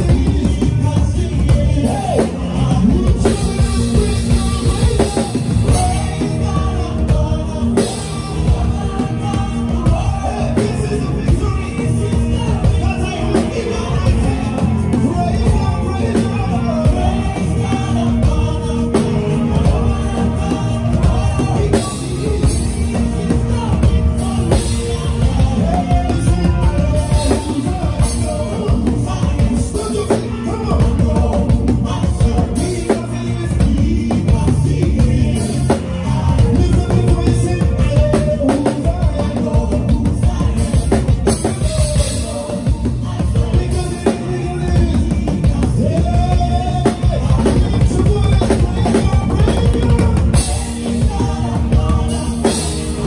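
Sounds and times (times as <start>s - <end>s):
drum kit beat: 0.0s - 53.0s
gospel band playing: 0.0s - 53.0s
person singing: 0.0s - 53.0s.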